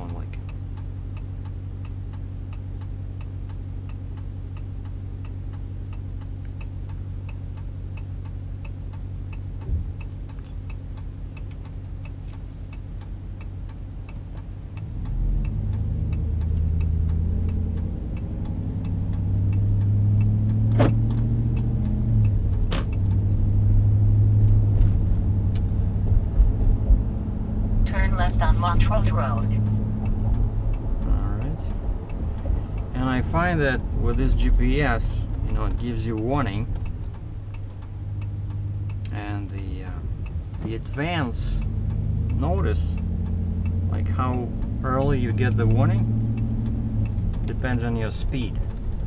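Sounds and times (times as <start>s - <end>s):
truck engine running: 0.0s - 49.0s
turn signal ticking: 0.0s - 49.0s.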